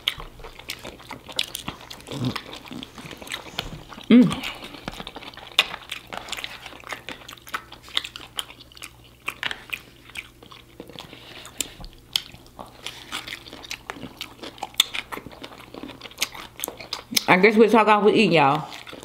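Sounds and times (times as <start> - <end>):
person chewing food: 0.0 - 17.4, 18.5 - 19.0.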